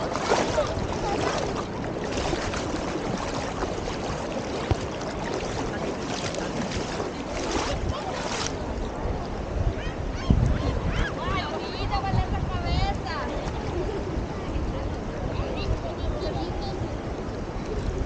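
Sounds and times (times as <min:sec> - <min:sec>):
surf washing: 0:00.0 - 0:18.0
wind rumbling on microphone: 0:00.0 - 0:18.0.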